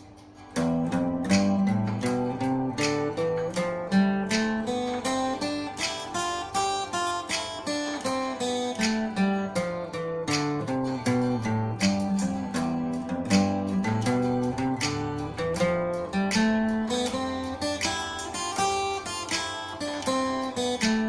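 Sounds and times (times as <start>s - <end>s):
guitar picking single notes: 0.0s - 21.0s.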